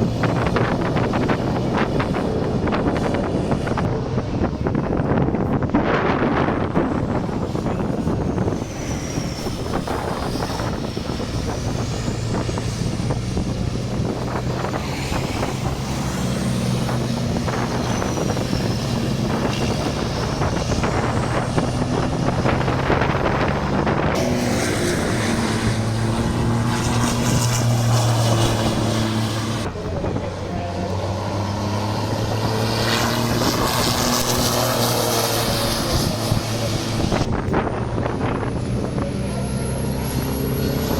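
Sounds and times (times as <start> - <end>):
heavy truck engines running: 0.0 - 40.9.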